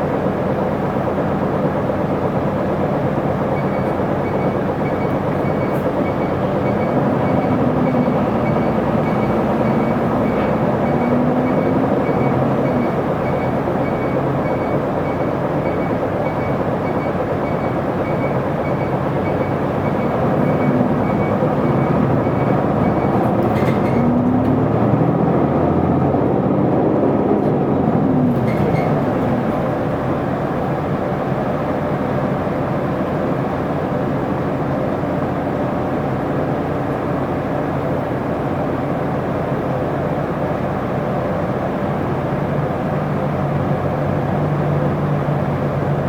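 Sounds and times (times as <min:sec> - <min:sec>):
road noise: 0:00.0 - 0:33.4, 0:35.3 - 0:46.0
bus diesel engine droning: 0:00.0 - 0:46.0.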